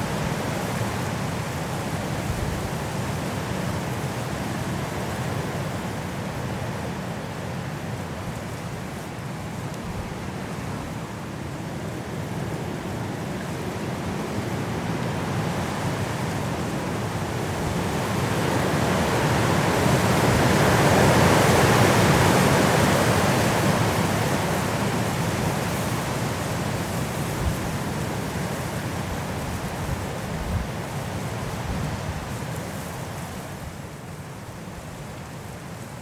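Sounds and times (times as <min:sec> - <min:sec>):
wind blowing through trees: 0:00.0 - 0:36.0.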